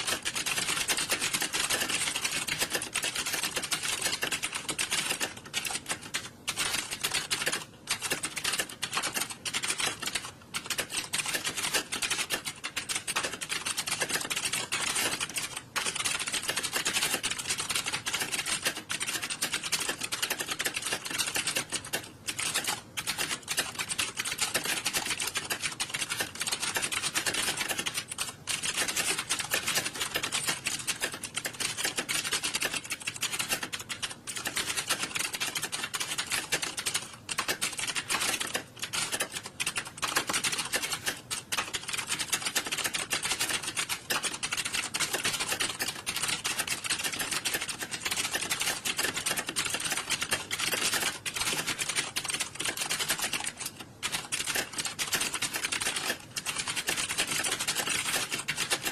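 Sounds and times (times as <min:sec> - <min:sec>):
many keyboards typing: 0:00.0 - 0:58.9.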